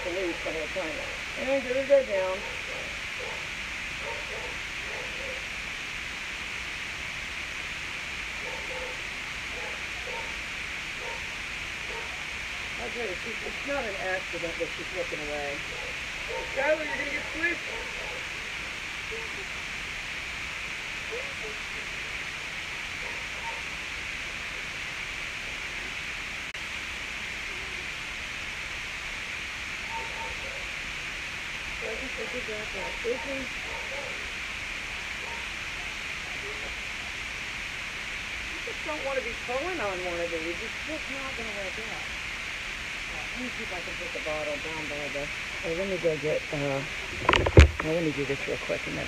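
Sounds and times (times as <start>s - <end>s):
steady background hiss: 0.0s - 49.0s.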